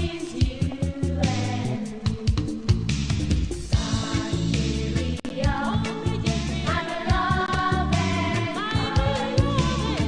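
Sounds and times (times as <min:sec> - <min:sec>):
music with repeating bass line: 0:00.0 - 0:10.0.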